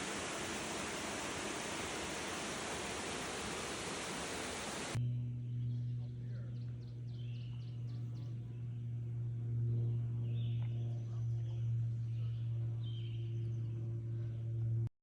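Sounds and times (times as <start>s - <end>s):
songbirds chirping: 0.0s - 9.0s, 9.6s - 14.5s
steady low hum: 0.0s - 14.9s.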